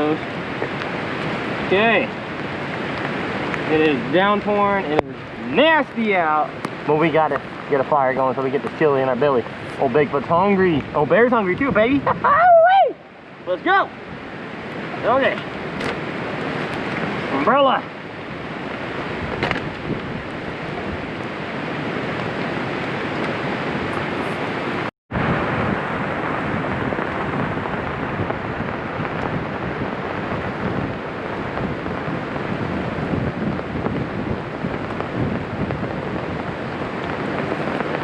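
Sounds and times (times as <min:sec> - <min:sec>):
heavy rain on an umbrella: 0:00.0 - 0:38.0.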